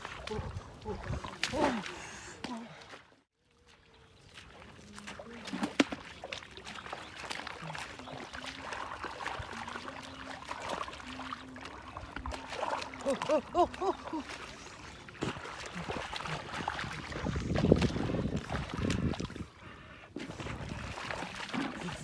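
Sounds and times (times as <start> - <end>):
muddy water sloshing: 0.0 - 22.0.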